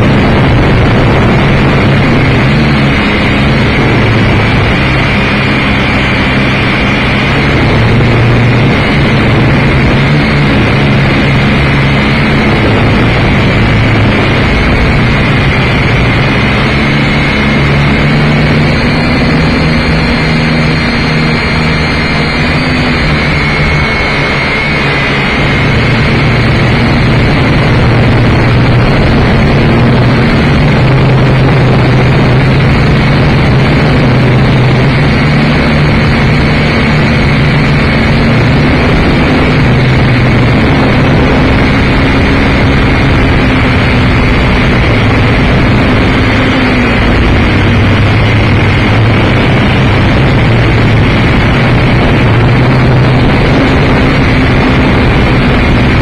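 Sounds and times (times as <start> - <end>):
model aircraft motor droning: 0.0 - 56.0
rushing wind noise: 0.0 - 56.0.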